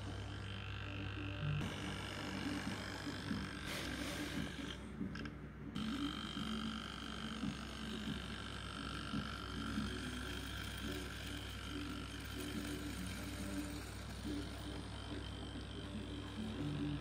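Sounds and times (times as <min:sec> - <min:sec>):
small electric motor buzzing: 0:00.0 - 0:17.0.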